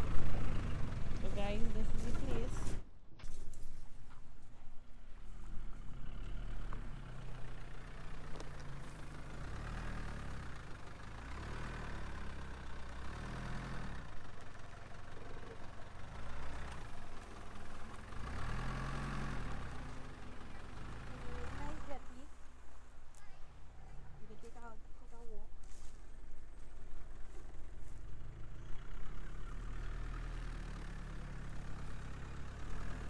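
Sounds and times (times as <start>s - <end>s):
van engine idling: 0.0s - 2.9s, 4.0s - 33.0s.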